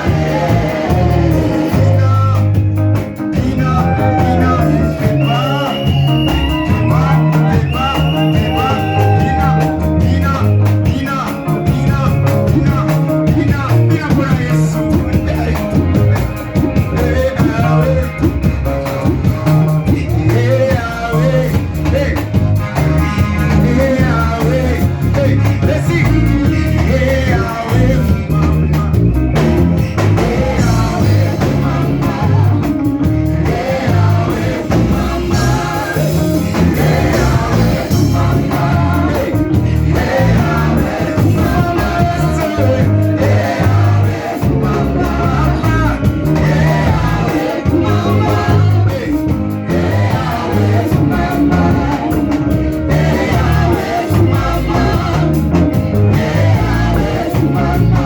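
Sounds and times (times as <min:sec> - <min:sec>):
pulsing bass line: 0:00.0 - 0:58.0
worship singing with instruments: 0:00.0 - 0:58.0.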